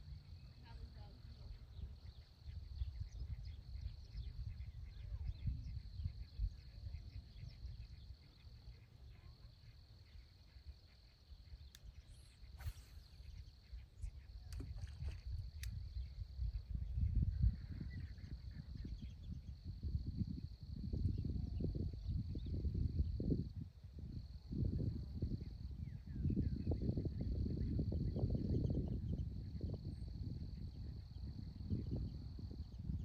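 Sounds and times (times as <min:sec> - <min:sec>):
low rumble on microphone: 0:00.0 - 0:10.6, 0:11.4 - 0:33.0
insects trilling: 0:00.0 - 0:33.0.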